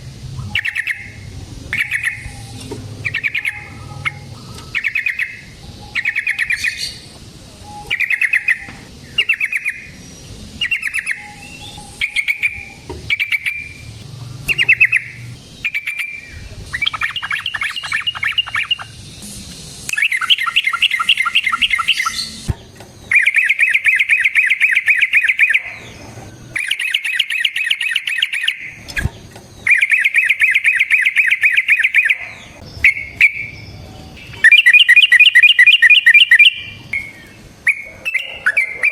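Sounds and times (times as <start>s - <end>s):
bulbul singing trills: 0.0s - 38.9s.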